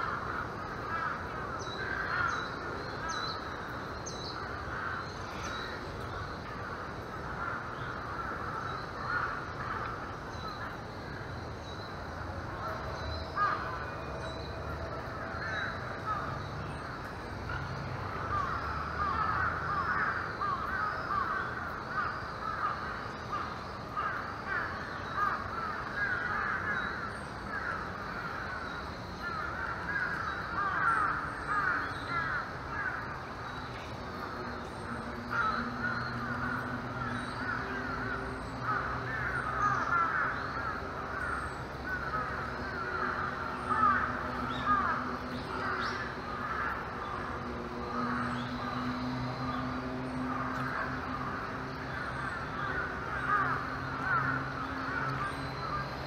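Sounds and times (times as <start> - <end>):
chatter of bird calls: 0.0 - 56.0.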